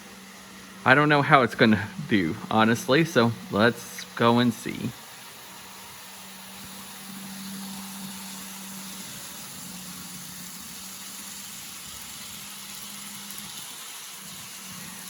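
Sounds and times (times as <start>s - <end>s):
model train motor humming: 0.0s - 15.0s.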